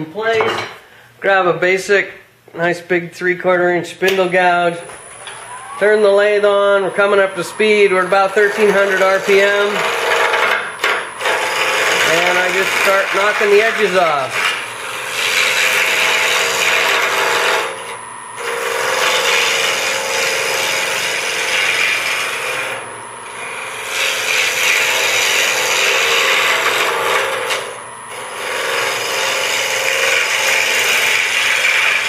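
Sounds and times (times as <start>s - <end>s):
gouge scraping spinning wood: 5.0s - 32.0s.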